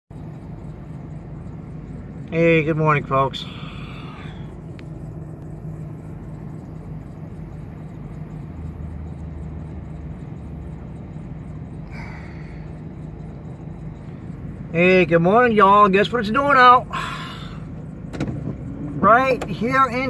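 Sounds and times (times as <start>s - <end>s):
vehicle engine idling: 0.1s - 20.0s.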